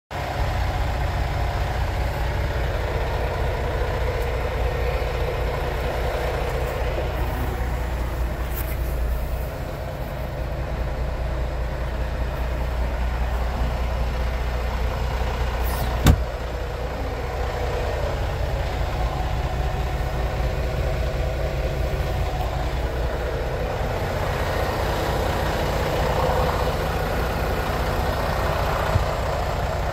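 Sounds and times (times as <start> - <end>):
diesel engine idling: 0.1 - 29.9.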